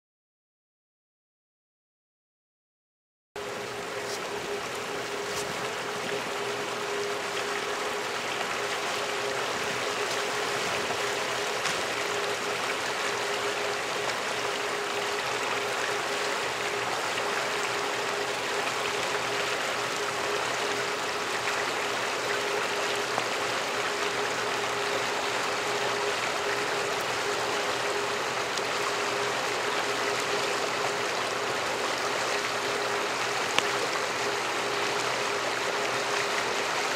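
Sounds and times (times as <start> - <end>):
faint steady hum: 3.4 - 36.9
stream water rushing: 3.4 - 36.9.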